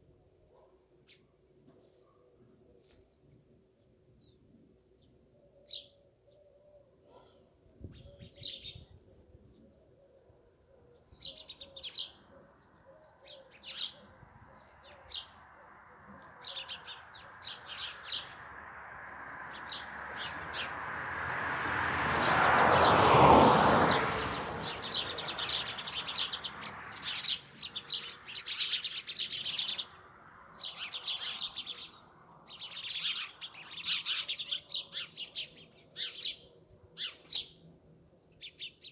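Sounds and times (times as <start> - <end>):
sparrows chirping: 2.8 - 18.6, 19.4 - 21.0, 24.3 - 38.9.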